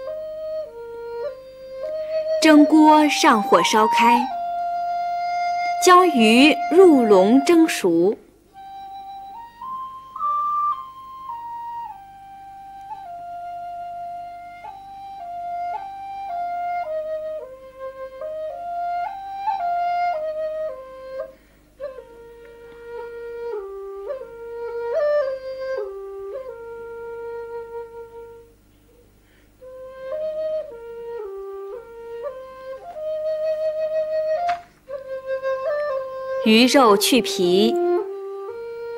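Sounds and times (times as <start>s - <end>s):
solo flute melody: 0.0s - 29.0s, 29.6s - 38.9s.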